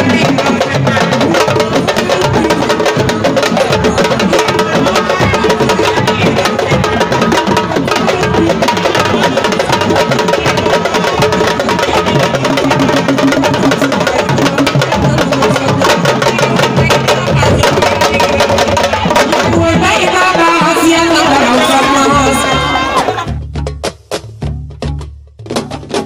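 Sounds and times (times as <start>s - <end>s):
group hand drumming: 0.0s - 26.0s.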